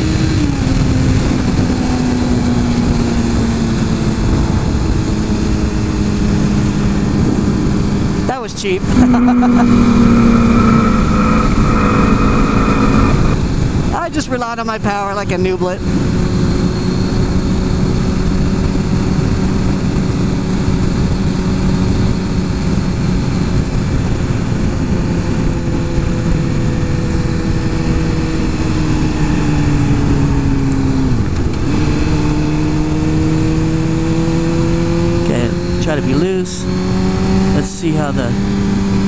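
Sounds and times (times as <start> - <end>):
heavy wind noise: 0.0 - 39.0
motorcycle engine cruising: 0.0 - 39.0.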